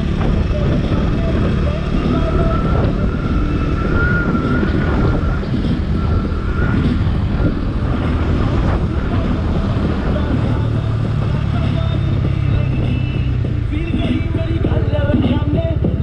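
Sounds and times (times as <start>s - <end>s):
thin wavering whine: 0.0s - 15.4s
motorcycle engine: 0.0s - 16.0s
wind buffeting microphone: 0.0s - 16.0s.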